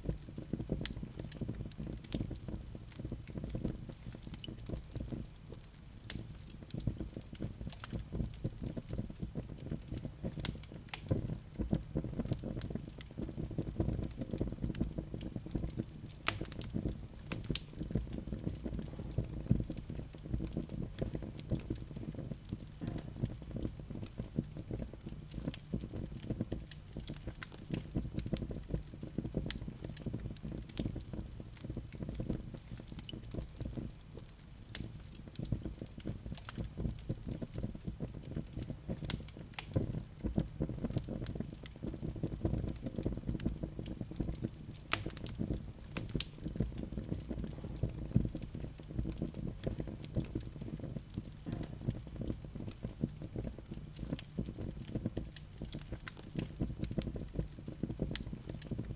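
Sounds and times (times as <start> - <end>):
fire crackling and popping: 0.0 - 58.9
low rumble of flames: 0.0 - 58.9.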